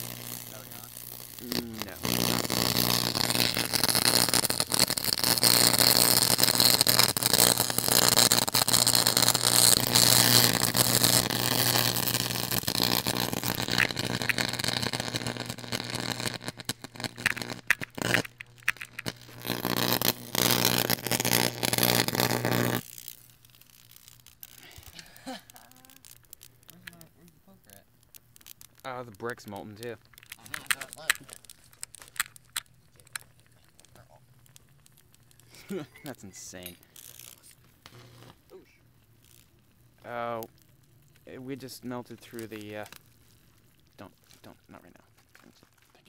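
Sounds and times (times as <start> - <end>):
electric arc buzzing and crackling: 0.0 - 45.9.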